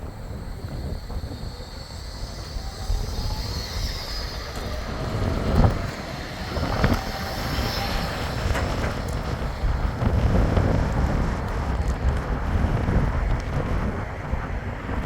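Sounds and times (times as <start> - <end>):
faint steady whine: 0.0 - 14.0
tram rumbling on track: 0.0 - 15.0
wind on microphone: 0.0 - 15.0.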